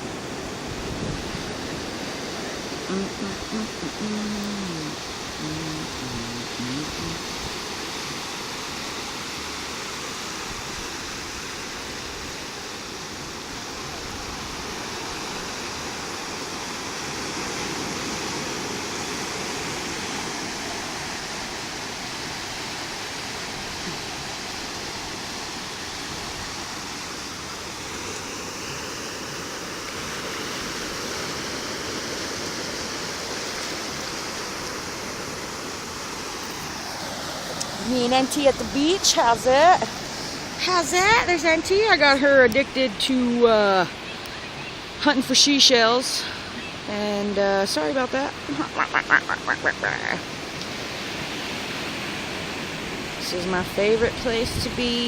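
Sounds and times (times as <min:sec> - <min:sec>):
ocean surf rushing on beach: 0:00.0 - 0:55.0.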